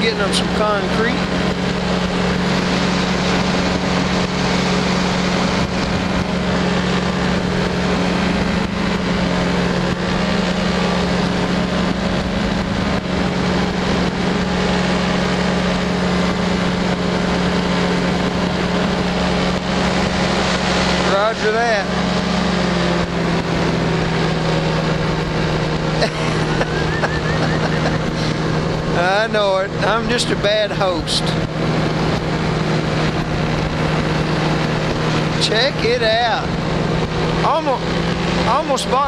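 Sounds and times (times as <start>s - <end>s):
engine and propeller drone: 0.0s - 39.0s.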